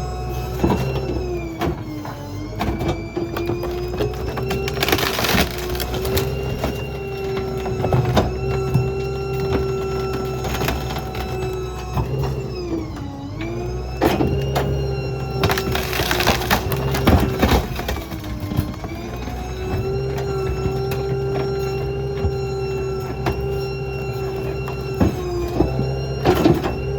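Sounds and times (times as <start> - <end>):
truck engine and hydraulic whine: 0.0 - 26.9
debris being crushed: 2.6 - 12.5, 14.0 - 26.9.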